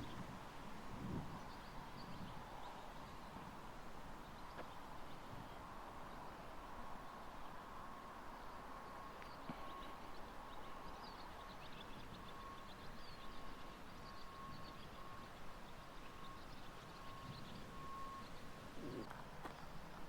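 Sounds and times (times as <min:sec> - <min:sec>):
birds chirping: 0:01.3 - 0:20.0.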